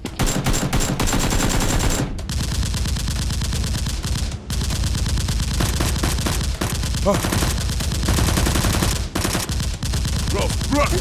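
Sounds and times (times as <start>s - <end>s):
rapid automatic gunfire: 0.0s - 11.0s.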